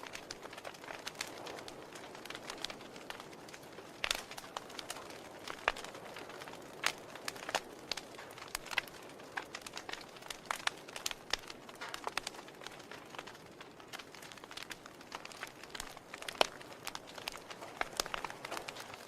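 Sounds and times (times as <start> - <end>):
log fire crackling: 0.0 - 19.0.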